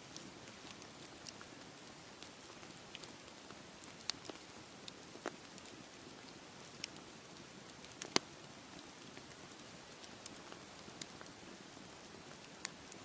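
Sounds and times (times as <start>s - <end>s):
campfire crackling and popping: 0.0s - 13.0s
low hiss: 0.0s - 13.0s.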